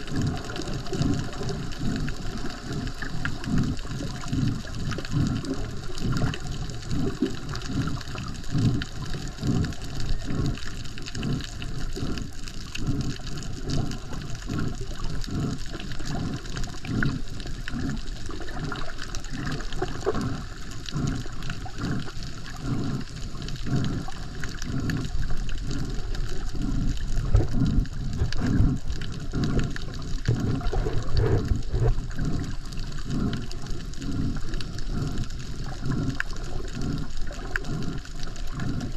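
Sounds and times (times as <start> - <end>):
water surging underwater: 0.0 - 38.9.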